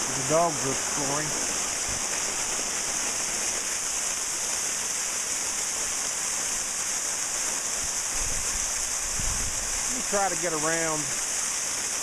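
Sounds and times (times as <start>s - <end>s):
waterfall rushing into rock bowl: 0.0s - 12.0s.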